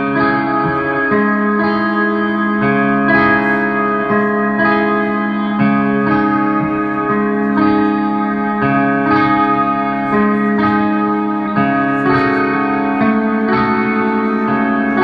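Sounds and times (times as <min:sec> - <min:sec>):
metal band playing live: 0:00.0 - 0:15.0.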